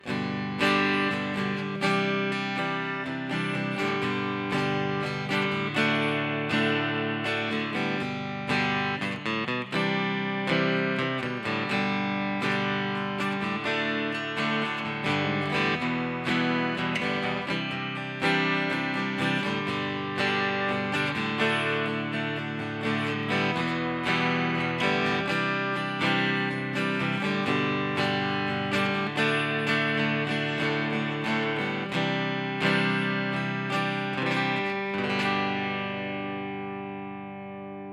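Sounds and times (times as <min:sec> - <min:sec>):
amplified acoustic guitar chords: 0:00.0 - 0:37.9.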